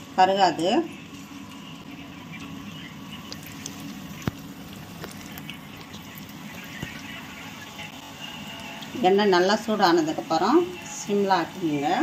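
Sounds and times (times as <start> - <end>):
dough deep-frying sizzle: 0.0 - 12.0.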